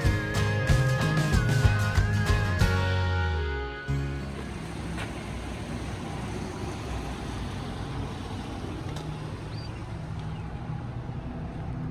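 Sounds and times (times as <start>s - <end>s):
vehicle engine and tyre rumble: 1.4s - 11.9s.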